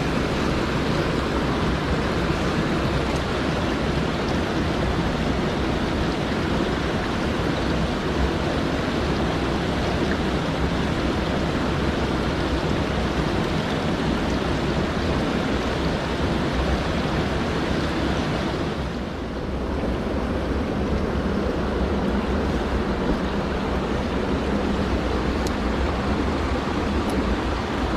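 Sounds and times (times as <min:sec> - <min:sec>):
stream rushing over rocks: 0:00.0 - 0:27.9.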